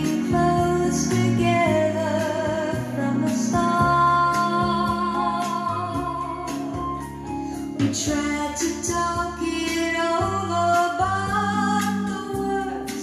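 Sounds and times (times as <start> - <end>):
singing voice with vibrato: 0.0 - 7.0, 7.7 - 13.0
bass and instrumental accompaniment: 0.0 - 13.0.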